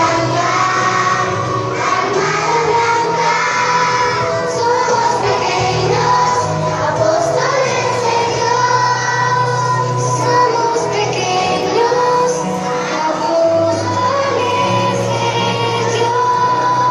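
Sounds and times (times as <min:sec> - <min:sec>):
children singing together: 0:00.0 - 0:16.9.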